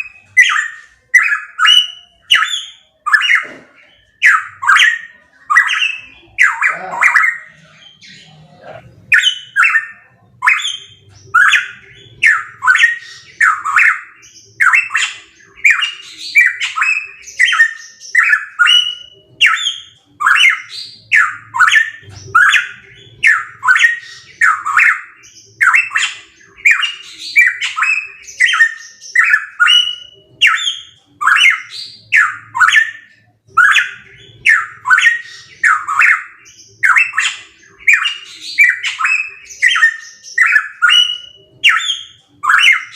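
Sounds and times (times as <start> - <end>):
bird calling harsh notes: 0.0 - 42.9.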